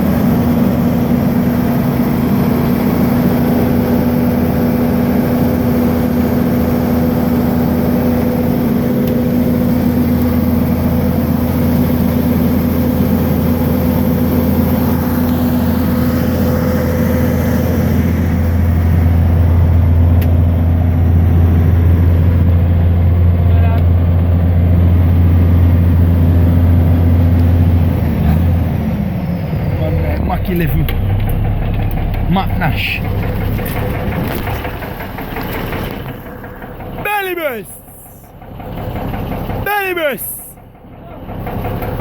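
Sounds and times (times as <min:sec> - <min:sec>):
deep low drone: 0:00.0 - 0:37.1
truck engine humming: 0:00.0 - 0:42.0.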